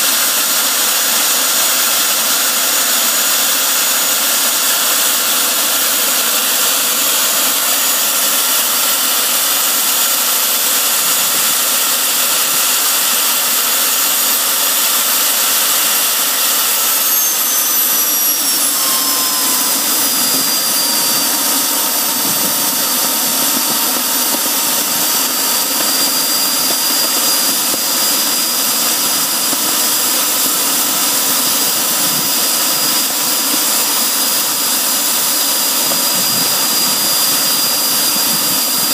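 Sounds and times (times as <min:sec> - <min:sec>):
jet engine running: 0:00.0 - 0:38.9.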